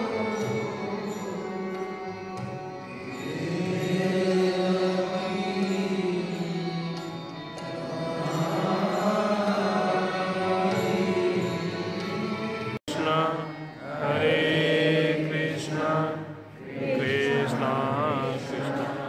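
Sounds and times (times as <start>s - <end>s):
devotional chanting with music: 0.0s - 19.0s.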